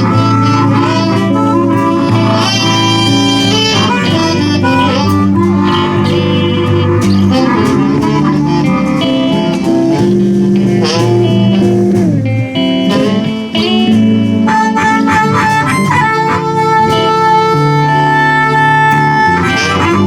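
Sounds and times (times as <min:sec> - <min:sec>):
guitar bending sliding notes: 0:00.0 - 0:20.0
live blues band playing: 0:00.0 - 0:20.0.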